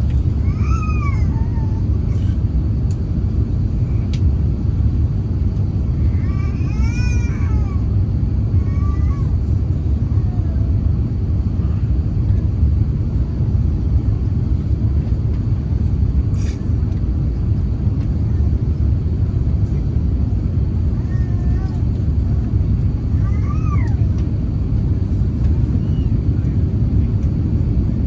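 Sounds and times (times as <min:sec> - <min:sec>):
low rumble inside aircraft cabin: 0:00.0 - 0:28.0.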